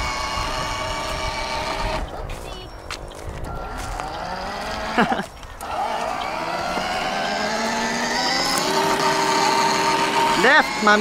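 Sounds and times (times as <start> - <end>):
toy car electric motor whining: 0.0 - 2.2, 3.6 - 11.0.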